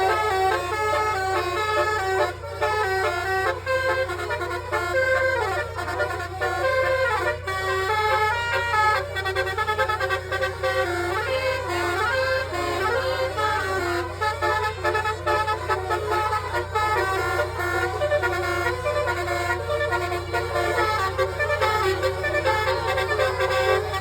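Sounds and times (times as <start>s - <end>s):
multi-tone air horns melody: 0.0s - 24.0s.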